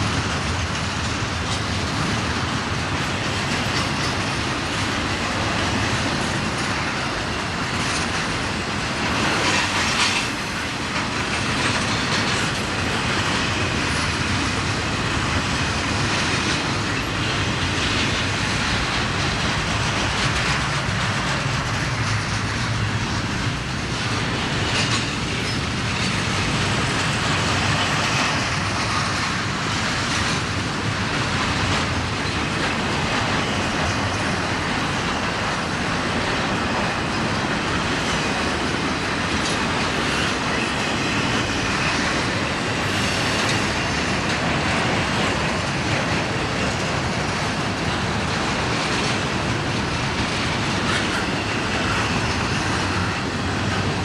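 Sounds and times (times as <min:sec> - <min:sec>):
train cars rolling past: 0:00.0 - 0:54.0
wheels clacking over rail joints: 0:00.0 - 0:54.0.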